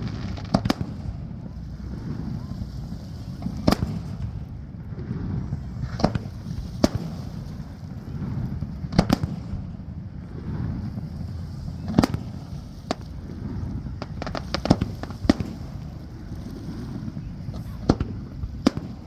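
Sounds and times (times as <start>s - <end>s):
fireworks bursting: 0.0s - 19.0s
low background rumble: 0.0s - 19.0s.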